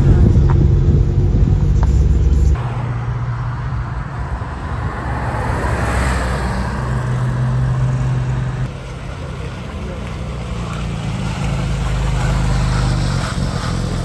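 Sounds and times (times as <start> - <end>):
sports car driving past: 0.0 - 14.0.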